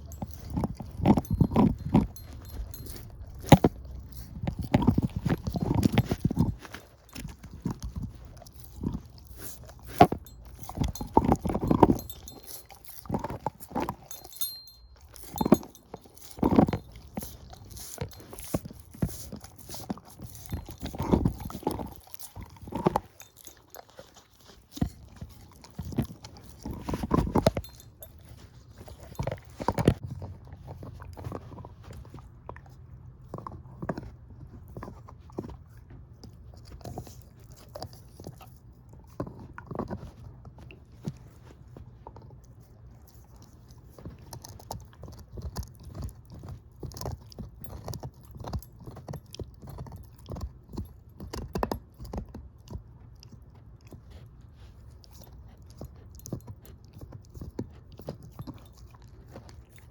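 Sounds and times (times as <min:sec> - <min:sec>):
dog chewing a bone: 0:00.0 - 0:59.9.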